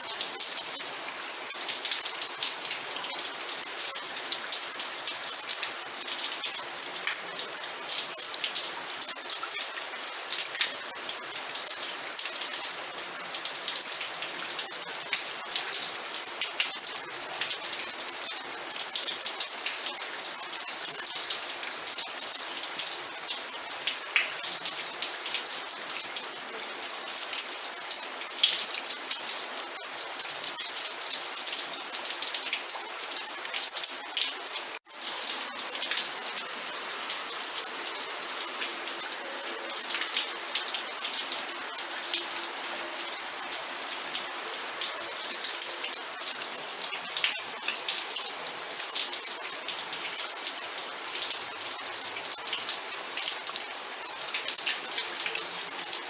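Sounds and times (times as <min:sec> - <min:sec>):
rain falling on a surface: 0:00.0 - 0:56.0.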